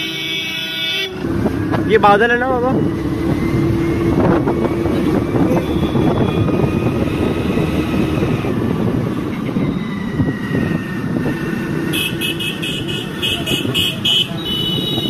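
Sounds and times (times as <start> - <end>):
motor scooter running: 1.2 - 15.0
wind rushing over microphone: 1.2 - 15.0.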